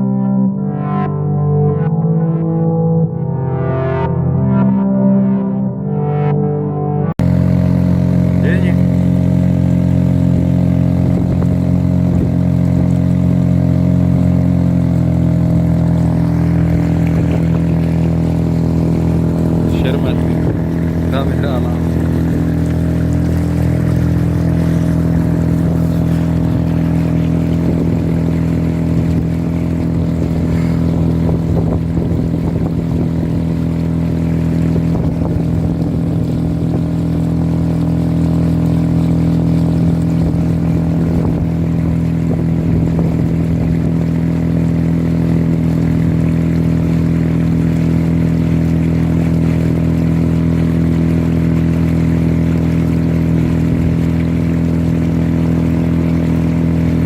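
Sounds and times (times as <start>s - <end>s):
motor engine running: 7.2s - 57.0s.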